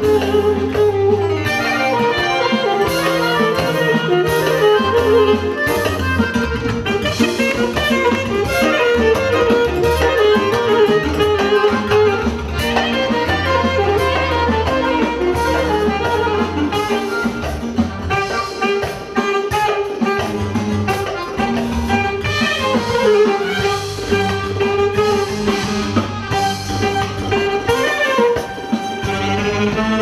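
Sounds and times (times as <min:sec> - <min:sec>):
lead melody: 0:00.0 - 0:30.0
steady percussive beat: 0:00.0 - 0:30.0.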